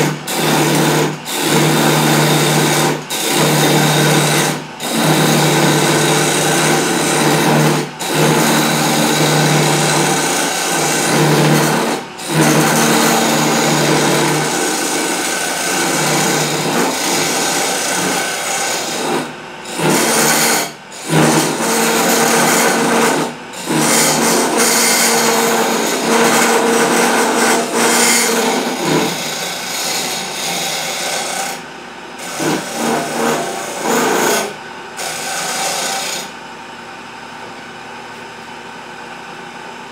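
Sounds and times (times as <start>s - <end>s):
lathe chisel scraping wood: 0.0s - 19.1s, 19.7s - 31.6s, 32.2s - 36.3s.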